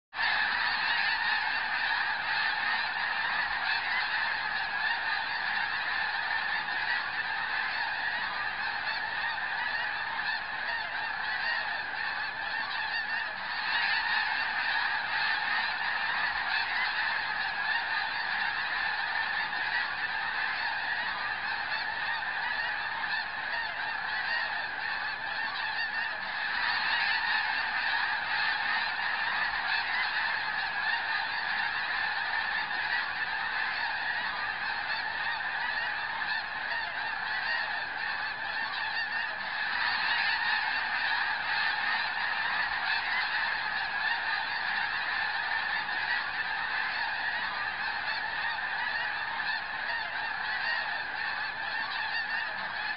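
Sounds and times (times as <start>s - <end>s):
flock of geese honking: 0.0s - 52.9s.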